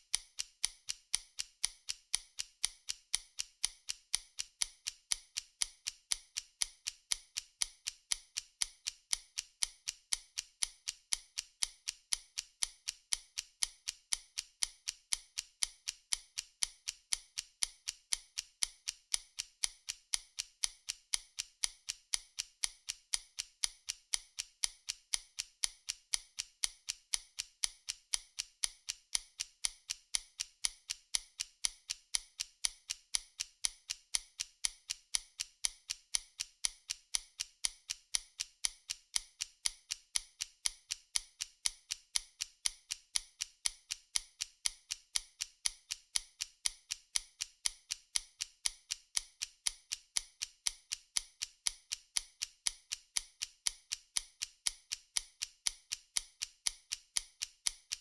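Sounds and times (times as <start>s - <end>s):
stopwatch ticking: 0.0s - 58.0s.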